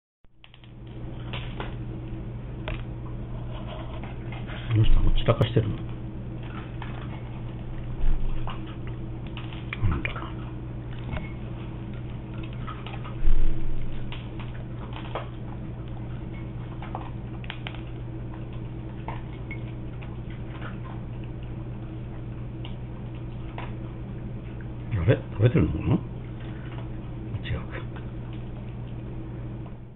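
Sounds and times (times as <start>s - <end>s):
steady low hum: 0.3s - 29.9s
dogs crunching kibble: 2.6s - 29.0s.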